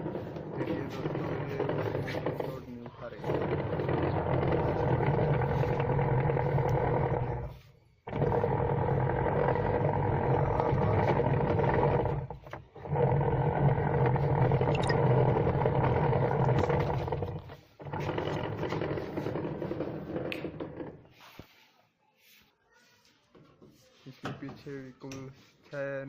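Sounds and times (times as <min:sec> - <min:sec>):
washing machine motor humming: 0:00.0 - 0:21.1.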